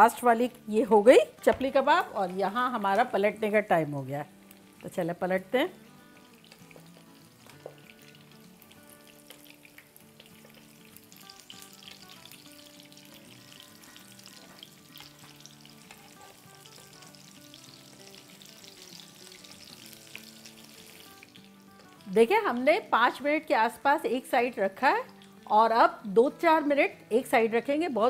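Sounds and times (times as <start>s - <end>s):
oil sizzling and crackling: 0.0s - 26.6s
soft background music: 0.0s - 28.0s.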